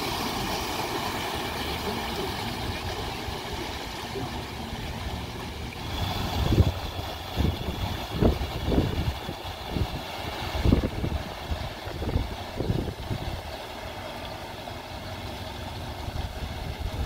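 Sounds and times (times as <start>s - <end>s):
car engine running: 0.0s - 17.0s
tyres splashing through water: 0.0s - 17.0s.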